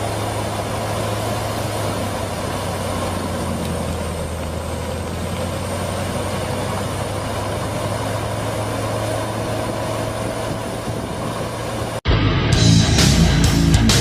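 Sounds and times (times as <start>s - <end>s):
heavy machinery engine droning: 0.0s - 14.0s.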